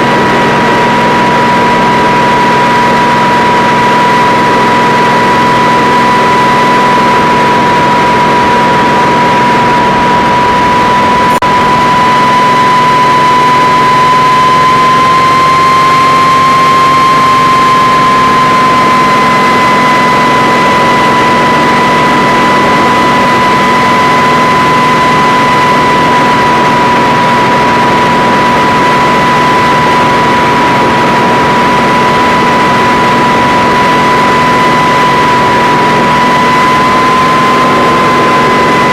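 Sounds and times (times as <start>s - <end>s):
helicopter engines and rotors: 0.0s - 38.9s
high-pitched whine: 0.0s - 38.9s.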